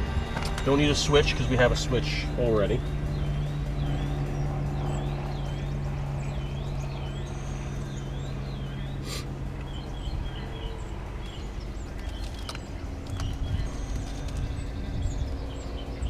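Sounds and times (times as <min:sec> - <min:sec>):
low steady rumble: 0:00.0 - 0:16.0
small birds chirping: 0:00.0 - 0:16.0.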